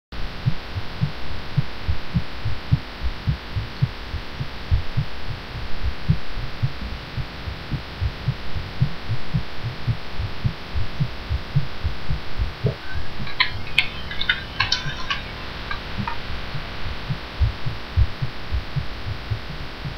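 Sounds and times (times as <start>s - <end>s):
fast heartbeat thumps: 0.4s - 19.9s.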